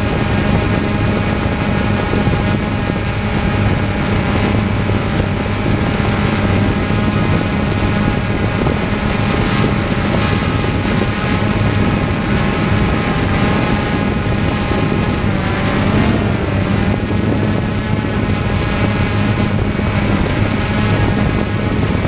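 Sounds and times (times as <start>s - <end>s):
propeller aircraft engine droning: 0.0s - 22.0s.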